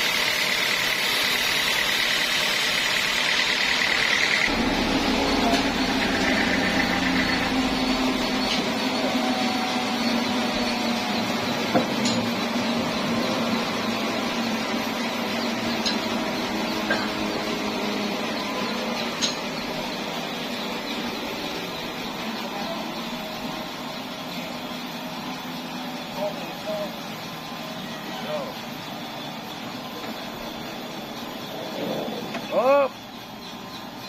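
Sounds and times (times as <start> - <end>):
sawmill machinery humming: 0.0 - 34.0.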